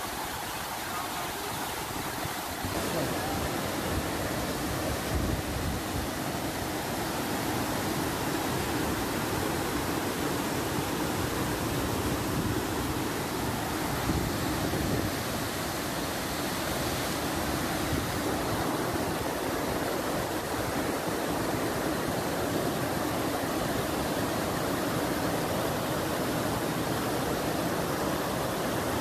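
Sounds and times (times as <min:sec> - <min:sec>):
white water rushing over rocks: 0:00.0 - 0:29.0.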